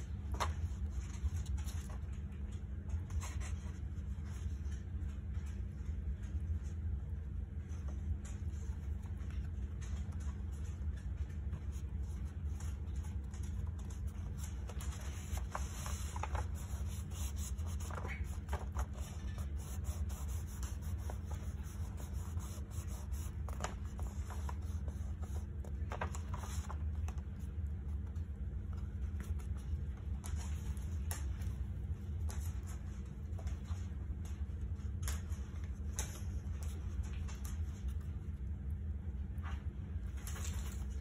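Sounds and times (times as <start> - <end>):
paper rustling: 0.0 - 5.7, 7.8 - 38.2.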